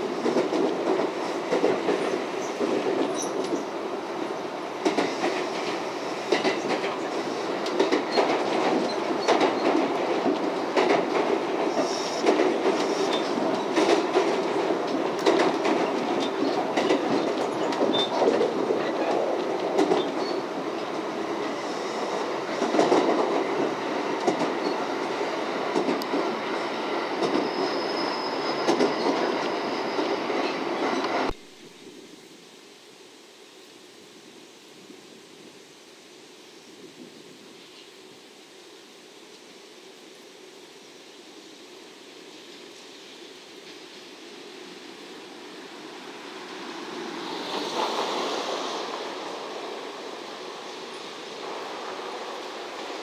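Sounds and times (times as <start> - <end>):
train wheels rumbling on rail: 0.0 - 31.4, 41.4 - 53.0.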